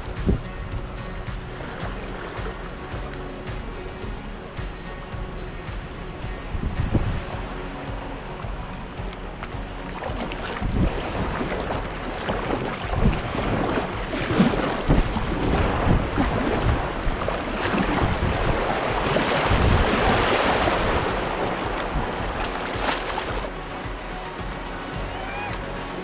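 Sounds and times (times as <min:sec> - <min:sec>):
wind buffeting microphone: 0:00.0 - 0:25.7
water rushing and splashing: 0:00.0 - 0:26.0.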